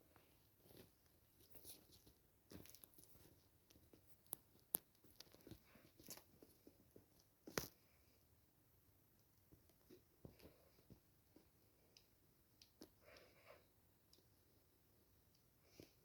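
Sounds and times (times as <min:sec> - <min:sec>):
soft rustles: 0:00.0 - 0:08.2, 0:09.4 - 0:14.4.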